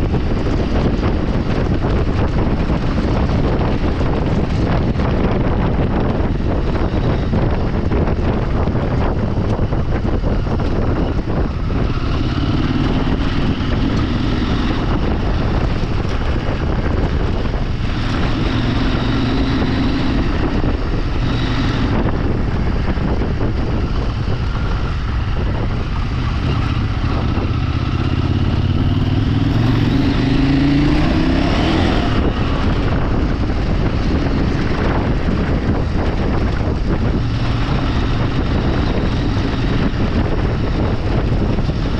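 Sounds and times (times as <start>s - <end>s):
off-road vehicle engine: 0.0s - 41.9s
wind on microphone: 0.0s - 41.9s.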